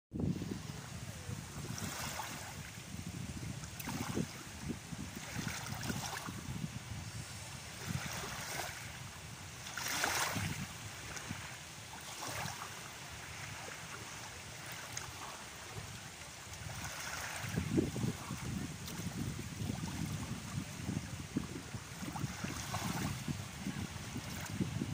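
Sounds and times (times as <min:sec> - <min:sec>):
wind rumble on microphone: 0:00.1 - 0:24.9
small waves lapping on sand: 0:00.2 - 0:24.9.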